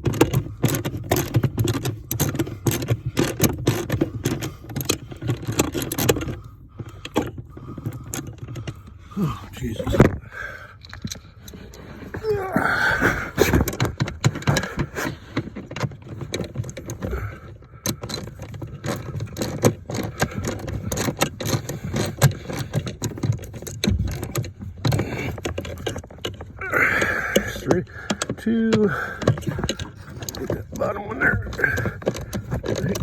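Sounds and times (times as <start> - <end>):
hand tools clicking and scraping: 0.0 - 33.0.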